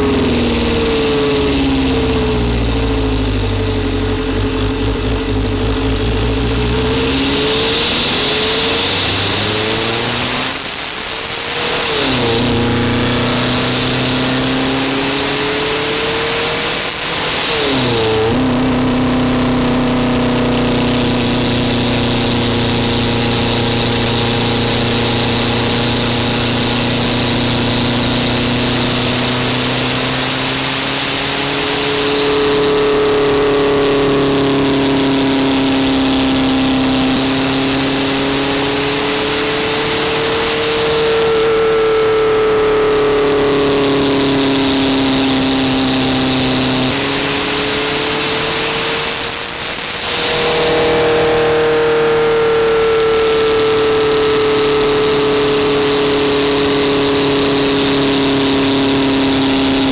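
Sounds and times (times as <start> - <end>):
turbo whine: 0.0 - 59.9
turbodiesel engine running: 0.0 - 59.9.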